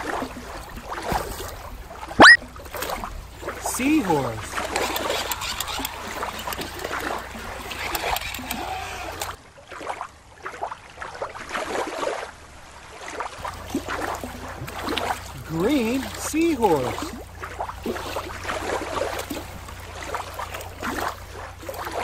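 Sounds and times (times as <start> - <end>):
water lapping: 0.0 - 22.0
water splashing at shoreline: 0.0 - 22.0.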